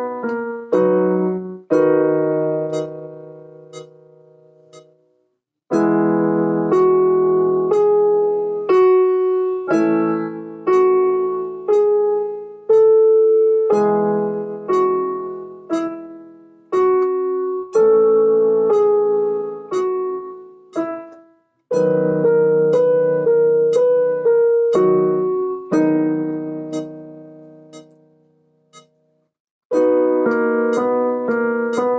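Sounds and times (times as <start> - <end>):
slow piano piece: 0.0 - 5.0, 5.7 - 28.9, 29.7 - 31.9.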